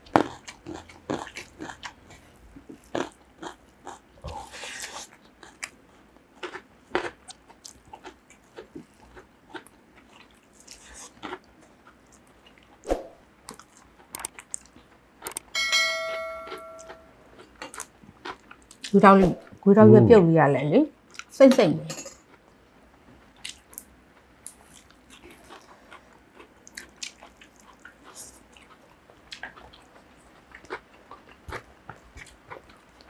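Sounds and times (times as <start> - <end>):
people chewing and crunching food: 0.0 - 15.5, 16.5 - 20.1, 21.0 - 21.4, 22.0 - 33.0.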